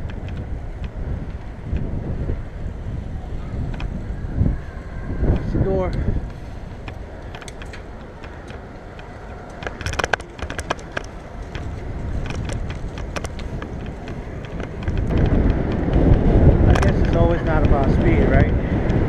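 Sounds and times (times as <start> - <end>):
bike clicks and rattles: 0.0 - 19.0
road and wind noise: 0.0 - 19.0.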